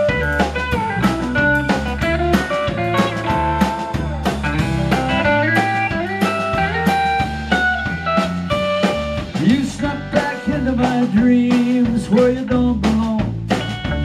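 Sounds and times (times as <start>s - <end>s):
drum kit steady beat: 0.0s - 14.0s
electric bass: 0.0s - 14.0s
electric guitar lead line: 0.0s - 14.0s.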